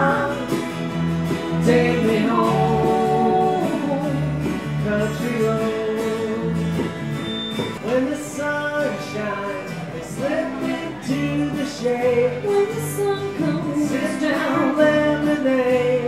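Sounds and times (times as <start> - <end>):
person singing: 0.0 - 0.8, 1.4 - 6.8, 7.8 - 16.0
acoustic guitars strumming: 0.0 - 16.0
electric bass: 0.0 - 16.0.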